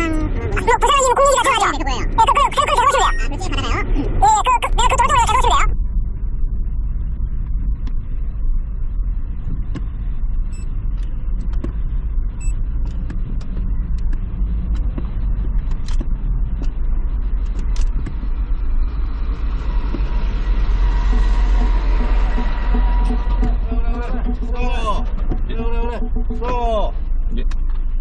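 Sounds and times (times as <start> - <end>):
car interior low rumble: 0.0 - 28.0.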